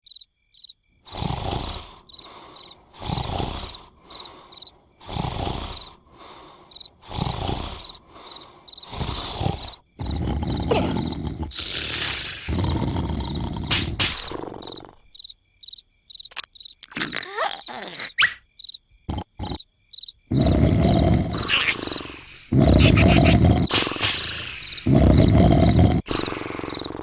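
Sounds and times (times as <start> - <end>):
crickets chirping: 0.0 - 27.0
cartoon snoring: 1.1 - 15.1, 17.0 - 18.3, 19.1 - 19.6, 20.3 - 27.0.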